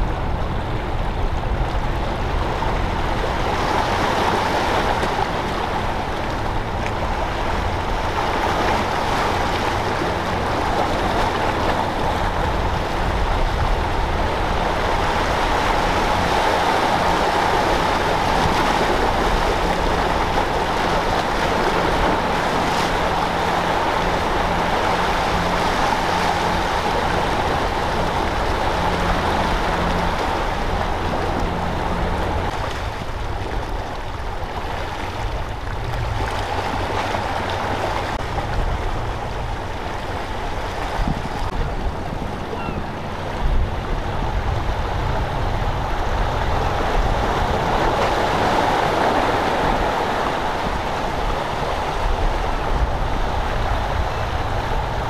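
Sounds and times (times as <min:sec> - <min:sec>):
sea water on rocky shore: 0:00.0 - 0:55.0
wind: 0:00.0 - 0:55.0.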